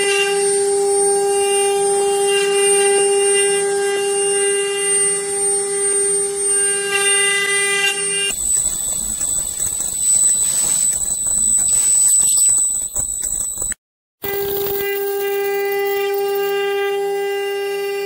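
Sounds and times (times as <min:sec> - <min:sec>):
jumbled machining noise: 0:00.0 - 0:13.6, 0:14.2 - 0:18.0
cnc router spindle whine: 0:00.0 - 0:18.0.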